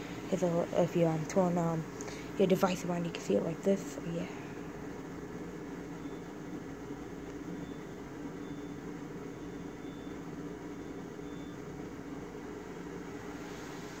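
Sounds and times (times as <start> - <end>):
electric blower fan humming: 0.0 - 14.0.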